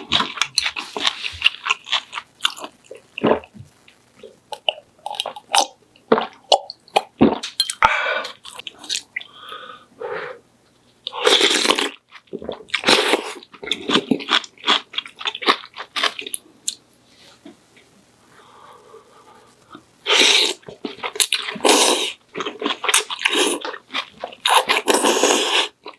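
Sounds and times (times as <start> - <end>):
person chewing food: 0.0 - 3.6, 4.2 - 9.6, 11.0 - 16.8, 19.6 - 25.9.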